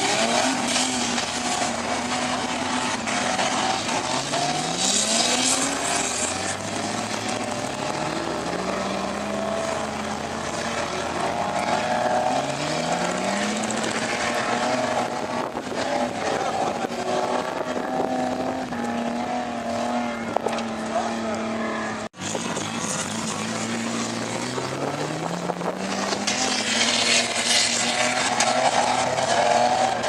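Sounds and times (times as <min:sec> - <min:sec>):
car engine revving hard: 0:00.0 - 0:30.0.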